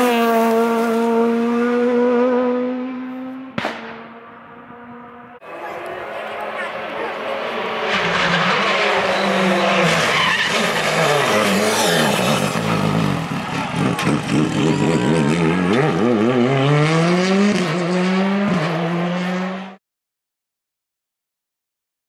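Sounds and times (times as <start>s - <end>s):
rally car engine revving: 0.0s - 19.8s.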